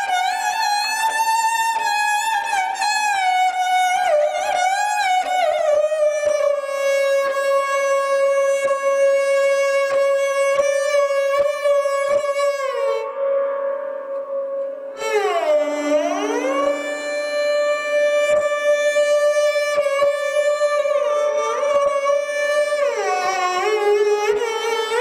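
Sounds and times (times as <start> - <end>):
bowed string instrument melody: 0.0 - 25.0.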